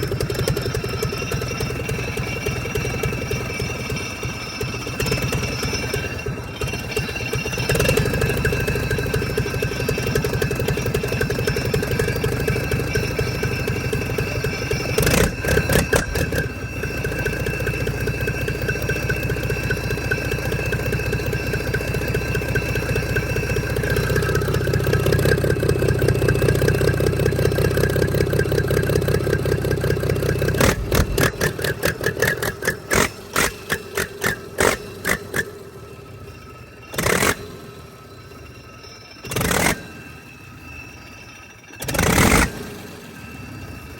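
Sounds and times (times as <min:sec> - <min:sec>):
engine rumbling: 0:00.0 - 0:43.9.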